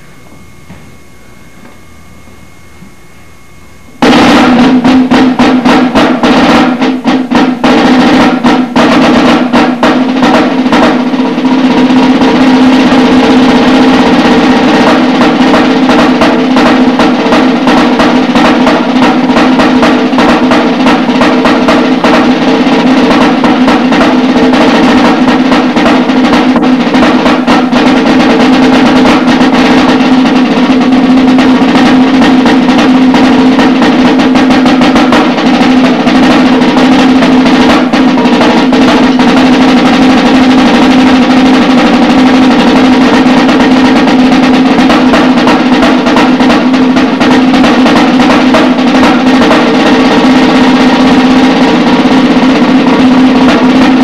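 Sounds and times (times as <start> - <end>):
snare drum played with sticks: 0.0 - 54.0.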